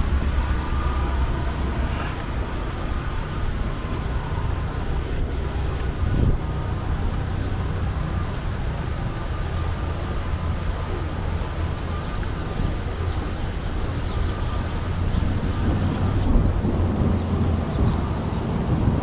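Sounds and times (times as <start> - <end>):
city street rumble in rainstorm: 0.0 - 19.0.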